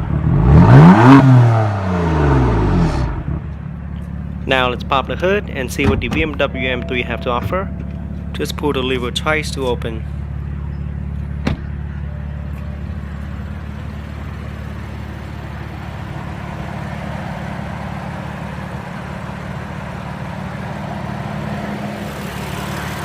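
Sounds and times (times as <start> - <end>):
car engine idling: 2.0 - 23.0.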